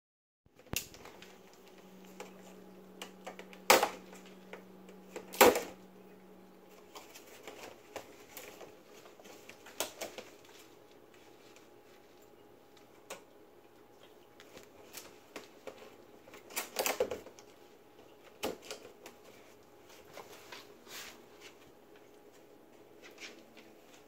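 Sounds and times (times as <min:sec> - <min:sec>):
faint steady hum: 0:00.5 - 0:24.0.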